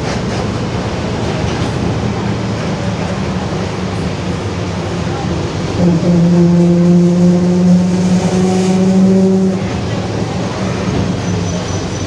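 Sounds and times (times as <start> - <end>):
bus differential howling: 0.0 - 12.0.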